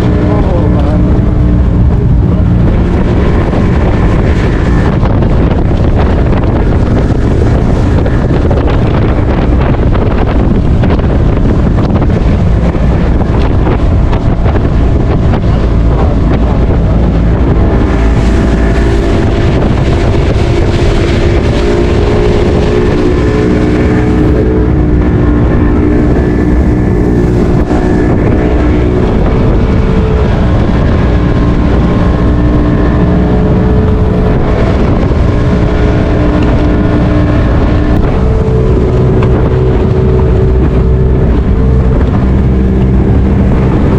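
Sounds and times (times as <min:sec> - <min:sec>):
motorboat engine running: 0:00.0 - 0:43.9
wind buffeting microphone: 0:00.0 - 0:43.9.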